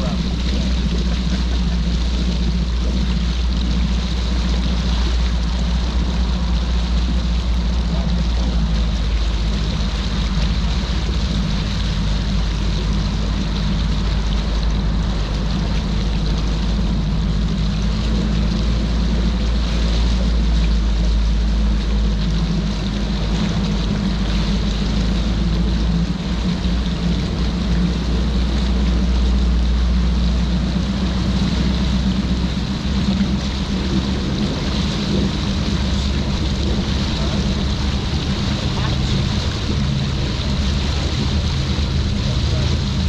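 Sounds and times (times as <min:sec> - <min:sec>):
outboard motor running: 0:00.0 - 0:43.0
rush of water and air: 0:00.0 - 0:43.0.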